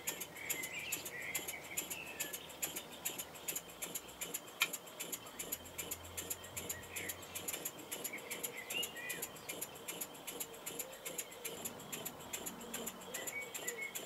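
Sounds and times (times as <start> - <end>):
faint bird chirps: 0.0 - 14.0
model steam engine ticking: 0.0 - 14.0.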